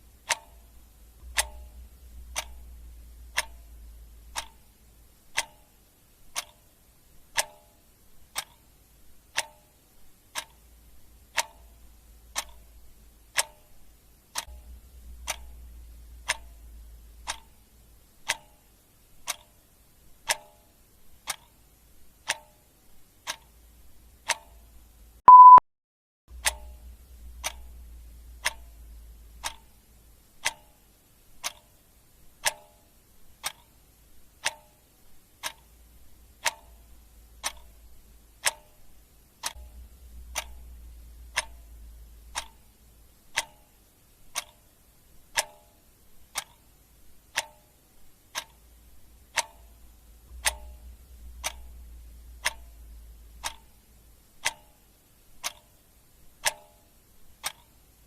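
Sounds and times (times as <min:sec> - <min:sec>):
clock ticking: 0:00.0 - 0:25.6, 0:26.3 - 0:58.0
faint low hum: 0:00.0 - 0:25.6, 0:26.3 - 0:58.0.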